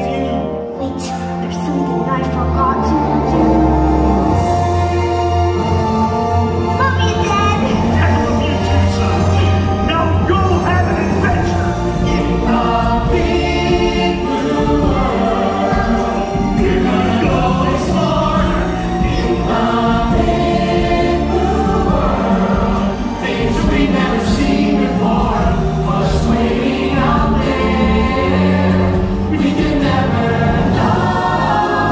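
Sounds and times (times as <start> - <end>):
chorus singing: 0.0 - 31.9
loud instrumental music: 0.0 - 31.9.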